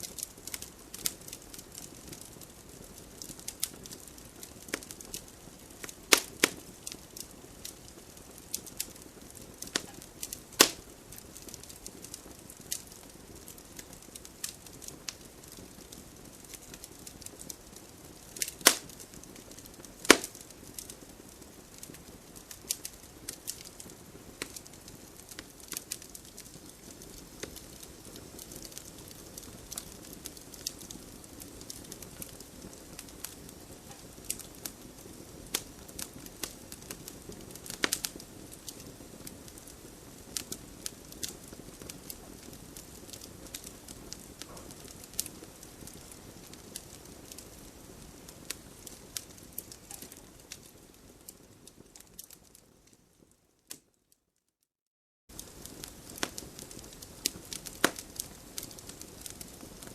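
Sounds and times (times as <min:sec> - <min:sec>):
campfire hissing: 0:00.0 - 0:52.6, 0:55.3 - 0:59.9
fire crackles and pops: 0:00.0 - 0:54.5, 0:55.3 - 0:59.9.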